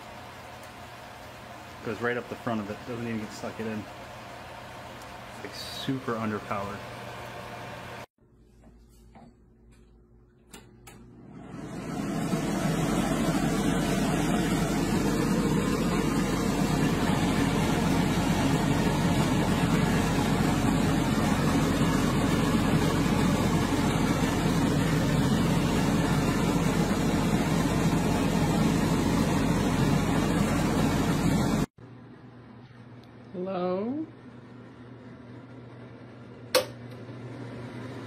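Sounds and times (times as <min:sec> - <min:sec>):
range hood fan running: 0:00.0 - 0:38.0.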